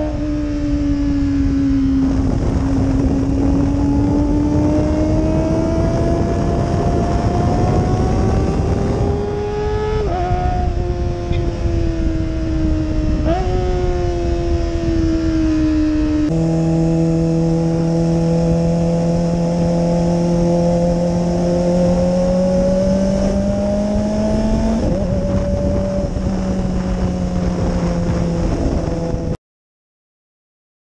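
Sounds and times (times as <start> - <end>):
motorcycle engine cruising: 0.0 - 29.4.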